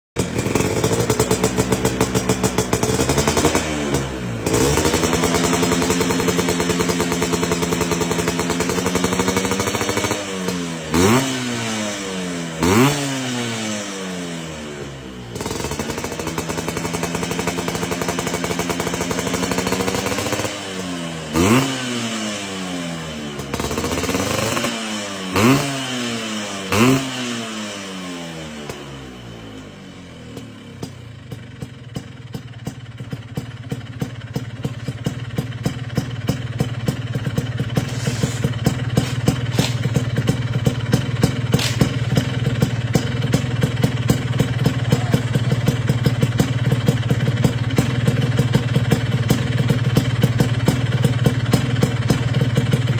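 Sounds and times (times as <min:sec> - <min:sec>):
scooter engine revving: 0:00.2 - 0:52.9.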